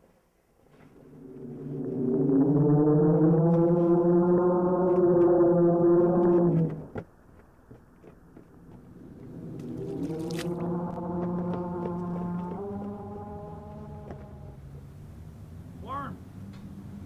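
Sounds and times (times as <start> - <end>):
low droning tone: 0.7 - 7.0, 8.5 - 16.7.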